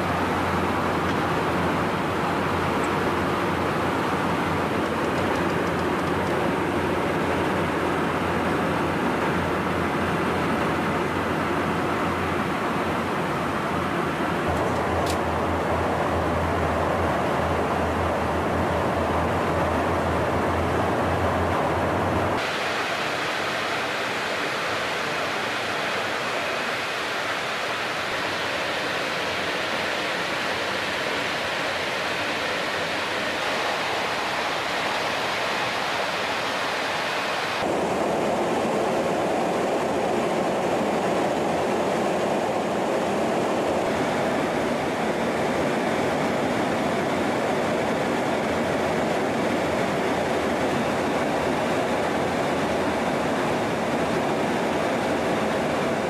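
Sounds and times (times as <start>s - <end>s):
aircraft cabin engine and airflow hiss: 0.0s - 56.0s.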